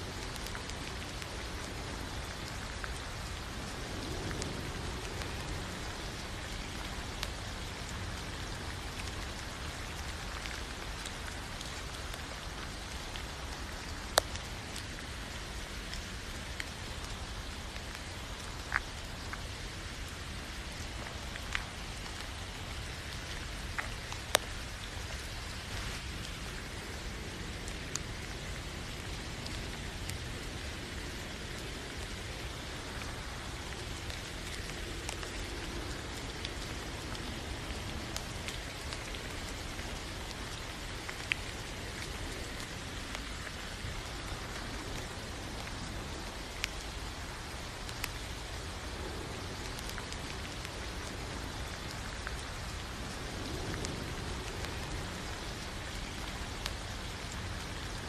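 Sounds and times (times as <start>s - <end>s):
steady rain falling: 0.0s - 58.0s
single raindrops ticking: 0.2s - 58.0s.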